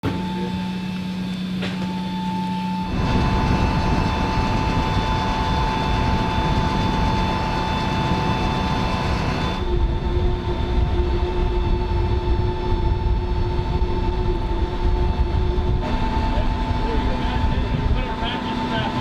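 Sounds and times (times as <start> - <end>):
aircraft engines running: 0.0 - 19.0.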